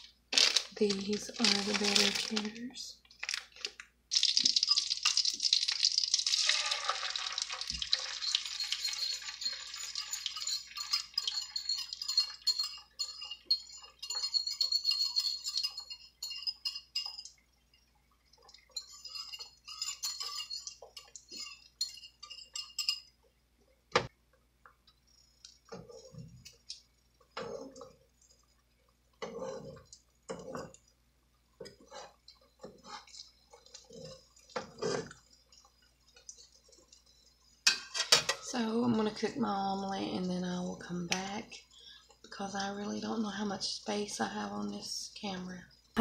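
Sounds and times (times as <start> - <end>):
eggs sizzling in a frying pan: 0.0 - 46.0.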